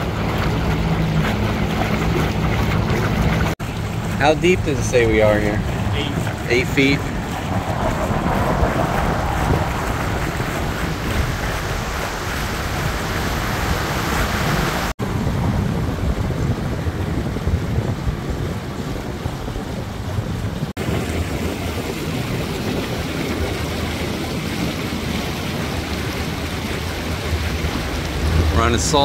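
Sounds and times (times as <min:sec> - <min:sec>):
boat motor: 0:00.0 - 0:29.0
water noise from hull: 0:00.0 - 0:29.0
wind buffeting microphone: 0:00.0 - 0:29.0.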